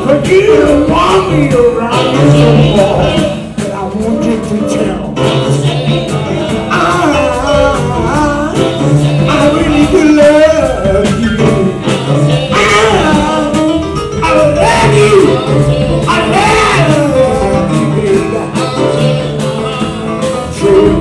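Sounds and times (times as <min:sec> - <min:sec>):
electric bass: 0:00.0 - 0:21.0
keyboard: 0:00.0 - 0:21.0
men singing: 0:00.0 - 0:21.0.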